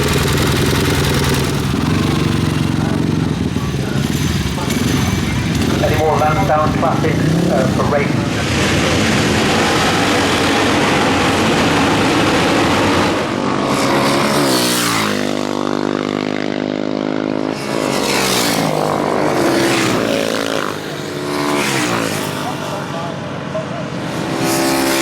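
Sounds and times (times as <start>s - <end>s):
racing motorcycle engines: 0.0s - 25.0s.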